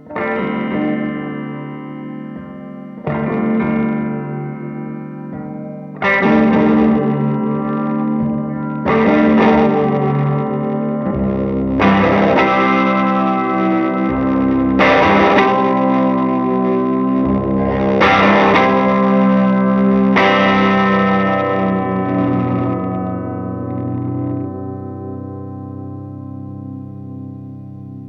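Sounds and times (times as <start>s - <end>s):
distorted electric guitar chords: 0.0s - 28.0s.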